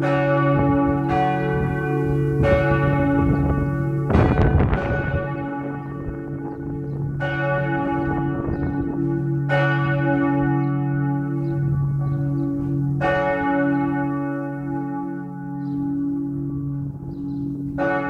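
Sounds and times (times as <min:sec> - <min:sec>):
church bells ringing: 0:00.0 - 0:18.0
deep bell hum: 0:00.0 - 0:18.0.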